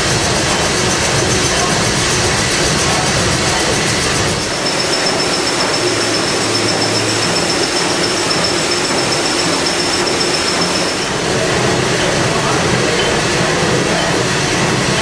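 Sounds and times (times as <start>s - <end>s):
steam engine running: 0.0s - 15.0s
thin high whine: 0.0s - 15.0s.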